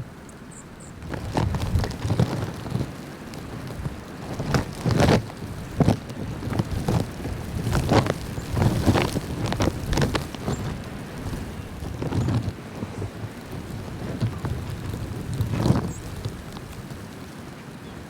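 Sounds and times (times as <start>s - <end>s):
wind gusting against microphone: 1.0s - 18.0s.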